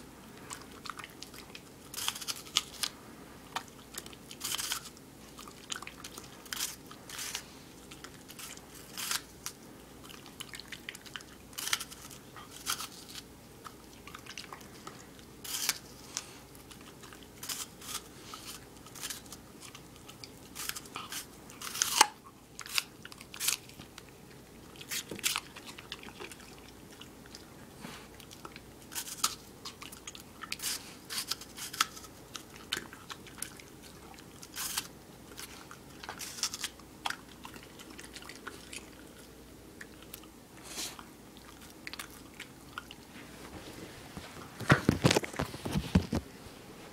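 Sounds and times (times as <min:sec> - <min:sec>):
dog crunching apple: 0:00.2 - 0:43.1.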